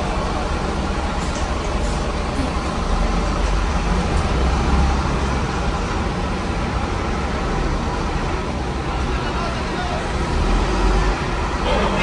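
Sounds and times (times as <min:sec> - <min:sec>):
bus diesel engine rumble: 0:00.0 - 0:12.0.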